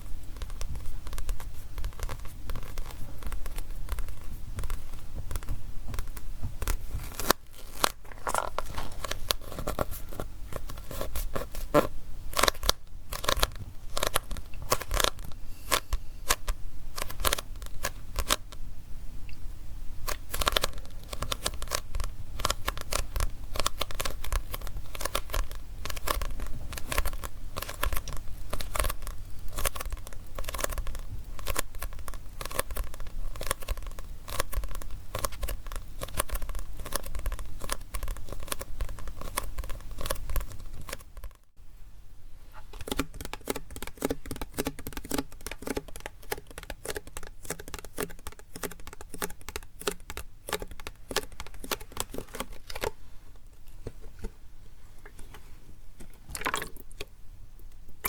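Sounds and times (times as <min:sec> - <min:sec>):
tapping and scratching on a book: 0:00.0 - 0:18.6, 0:20.0 - 0:41.4, 0:42.6 - 0:53.0.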